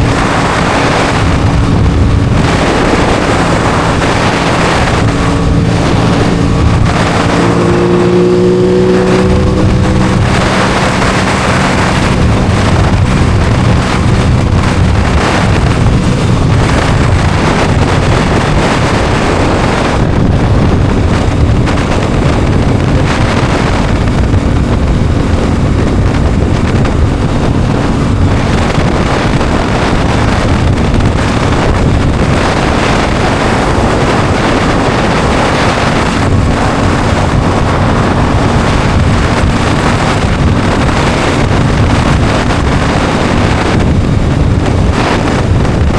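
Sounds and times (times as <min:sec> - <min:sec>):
motorcycle engine running: 0:00.0 - 0:45.9
wind noise on microphone: 0:00.0 - 0:45.9.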